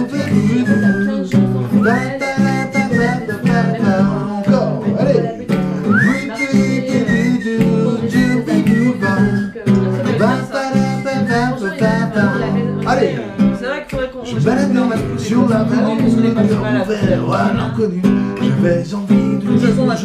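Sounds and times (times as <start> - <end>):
acoustic guitar strumming: 0.0 - 20.0
man singing wordlessly: 0.0 - 20.0.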